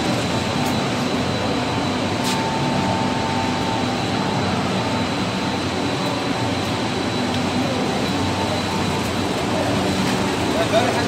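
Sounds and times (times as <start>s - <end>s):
high whine: 0.0s - 11.0s
machinery roar: 0.0s - 11.0s.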